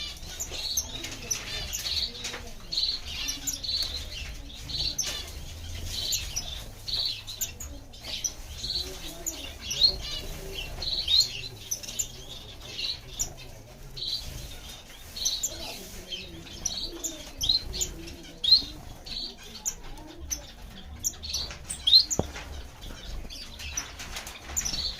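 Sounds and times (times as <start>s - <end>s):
finches chirping: 0.0s - 24.9s.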